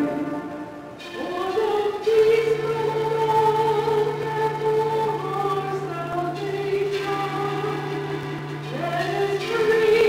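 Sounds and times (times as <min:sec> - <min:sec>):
church music with held notes: 0:00.0 - 0:10.0.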